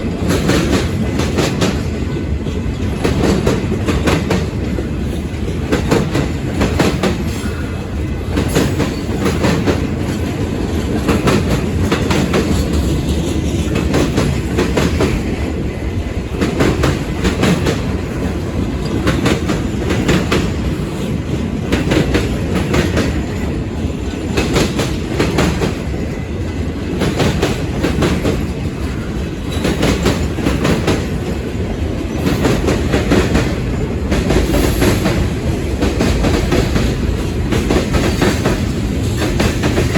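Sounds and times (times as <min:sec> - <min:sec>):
train cars rumbling past: 0:00.0 - 0:39.9
wheels clacking on rail joints: 0:00.0 - 0:39.9.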